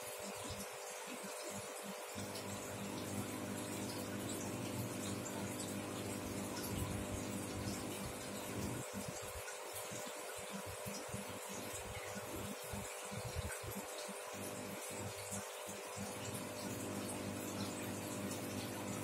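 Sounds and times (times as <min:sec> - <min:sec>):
aquarium filter pump running: 0:00.0 - 0:19.0.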